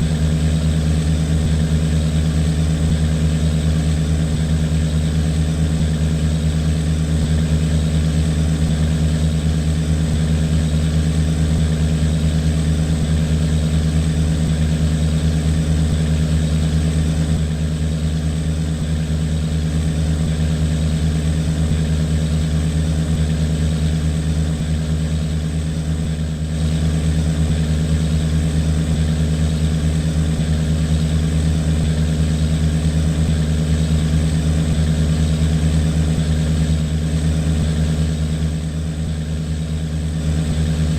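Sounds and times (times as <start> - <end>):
boat diesel engine drone: 0.0 - 40.9.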